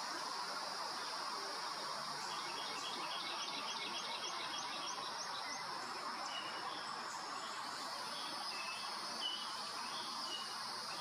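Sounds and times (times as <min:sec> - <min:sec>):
insect hiss: 0:00.0 - 0:11.0
songbird chirping: 0:02.0 - 0:11.0.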